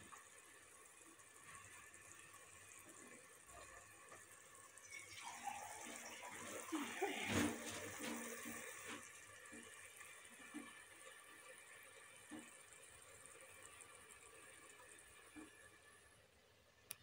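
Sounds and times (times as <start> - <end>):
sauce sizzling in a pot: 0.0 - 16.1.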